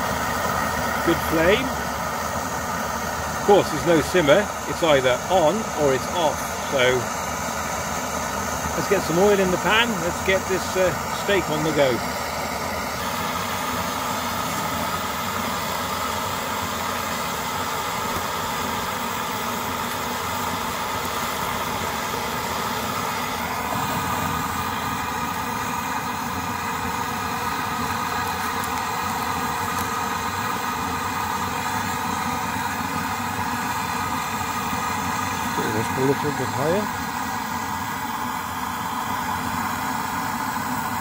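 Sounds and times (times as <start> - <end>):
pressure stove burner rushing: 0.0 - 41.0.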